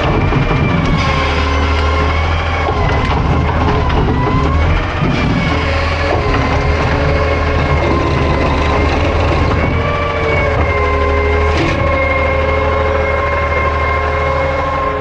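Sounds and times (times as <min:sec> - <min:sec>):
diesel engine running: 0:00.0 - 0:15.0
hydraulic whine: 0:00.0 - 0:15.0.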